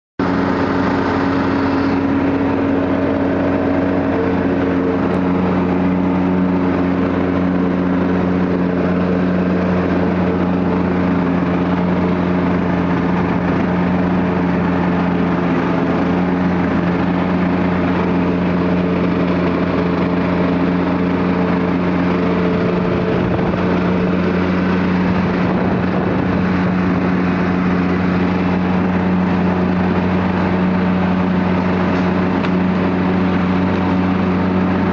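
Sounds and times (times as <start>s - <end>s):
lawn mower engine droning: 0.2s - 34.9s.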